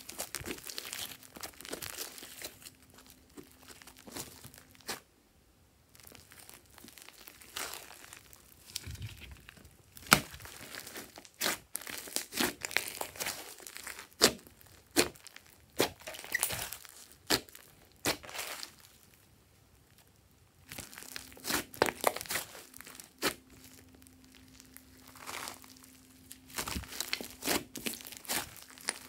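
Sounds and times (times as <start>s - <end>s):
slime squelching and crinkling: 0.0s - 5.1s, 5.9s - 29.0s.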